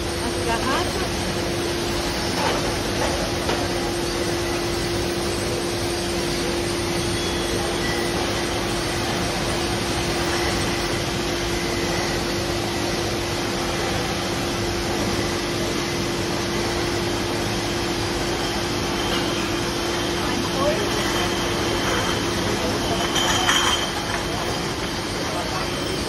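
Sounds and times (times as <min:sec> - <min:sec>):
bottling machinery running: 0:00.0 - 0:26.0
continuous humming tone: 0:00.0 - 0:26.0.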